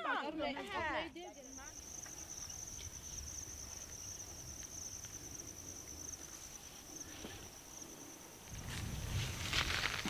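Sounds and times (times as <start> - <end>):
insects trilling: 0.1 - 10.0.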